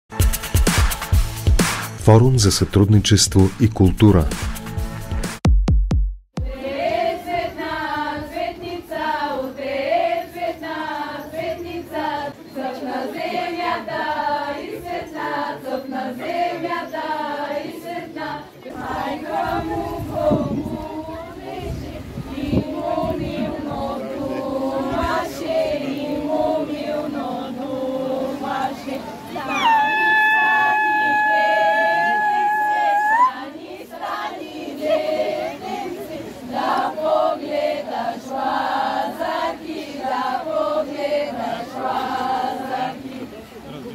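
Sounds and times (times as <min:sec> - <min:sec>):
crowd noise: 0:02.0 - 0:04.4, 0:06.6 - 0:43.9
girls singing folk song: 0:06.4 - 0:29.5, 0:31.0 - 0:43.3.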